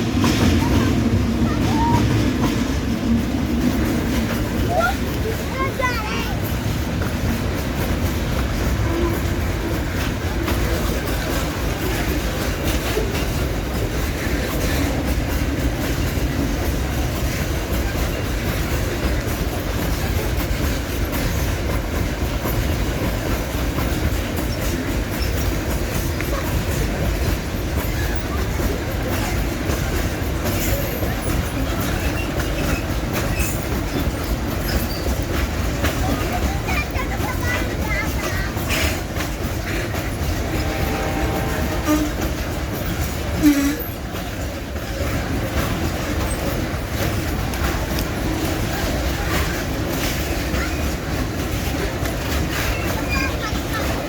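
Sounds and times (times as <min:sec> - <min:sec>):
train wagons rolling past: 0:00.0 - 0:54.0
wheels clicking over rail joints: 0:00.0 - 0:54.0
train wheel squeal: 0:03.6 - 0:47.8, 0:48.5 - 0:54.0.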